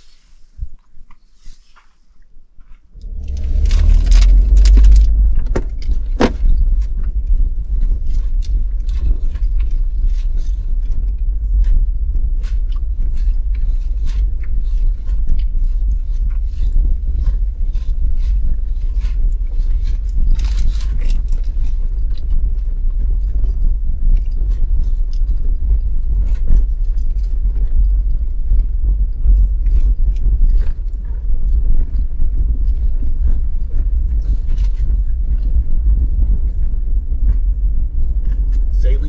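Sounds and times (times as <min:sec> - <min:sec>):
vehicle rumble: 0:02.9 - 0:39.0.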